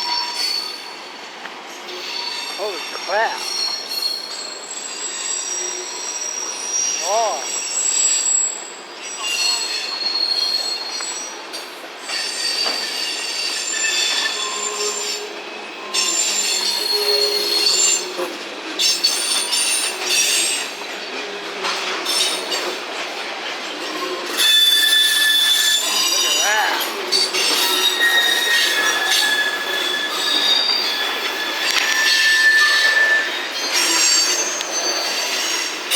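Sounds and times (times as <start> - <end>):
train wheels squealing: 0.0 - 35.9.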